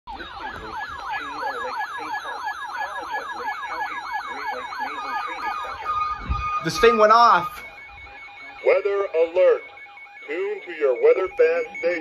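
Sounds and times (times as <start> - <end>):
clock radio alert siren warbling: 0.1 - 12.0.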